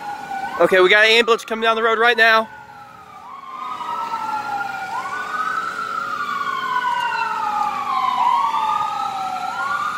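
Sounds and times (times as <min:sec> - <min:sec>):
ambulance siren wailing: 0:00.0 - 0:09.9
second siren wailing: 0:00.0 - 0:09.9.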